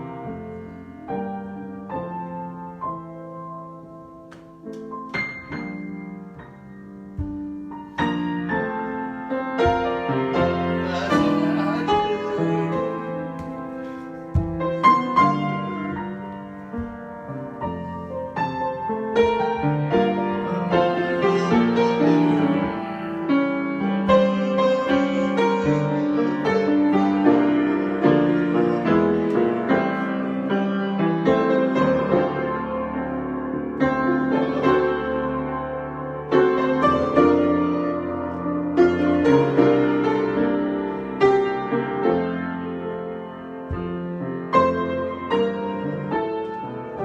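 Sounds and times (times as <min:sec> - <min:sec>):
solo piano improvisation: 0:00.0 - 0:47.0.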